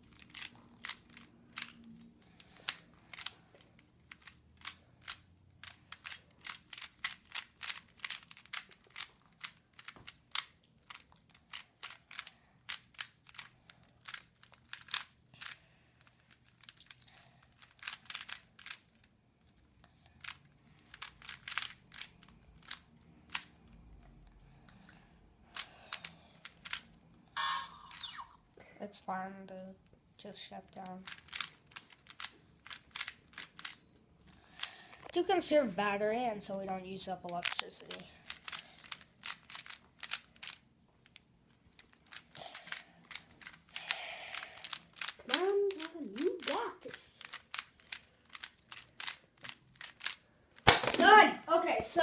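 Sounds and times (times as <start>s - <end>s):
puzzle cube clicking: 0.0s - 17.0s, 17.6s - 19.0s, 20.2s - 23.6s, 25.5s - 27.0s, 27.8s - 28.4s, 30.8s - 33.8s, 37.3s - 52.0s.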